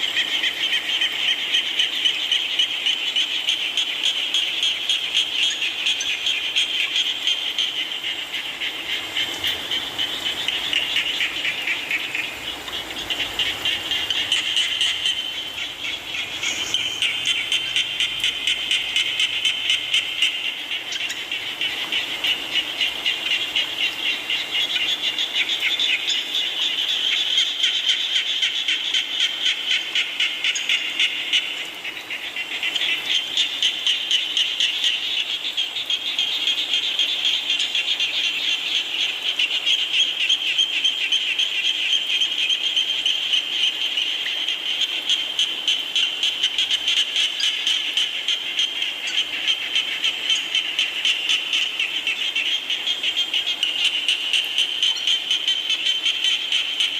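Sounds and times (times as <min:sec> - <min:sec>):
chorus of frogs calling: 0:00.0 - 0:56.9.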